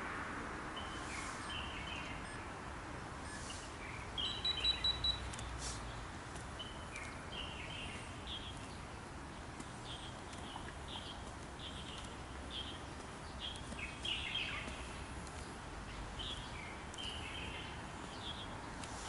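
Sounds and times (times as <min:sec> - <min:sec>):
outdoor hiss: 0:00.0 - 0:19.0
small birds chirping: 0:00.8 - 0:02.6, 0:03.2 - 0:19.0.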